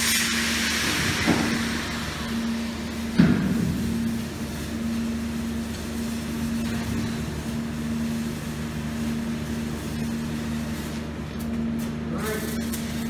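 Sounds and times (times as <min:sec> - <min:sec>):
welding arc crackling hiss: 0:00.0 - 0:13.0.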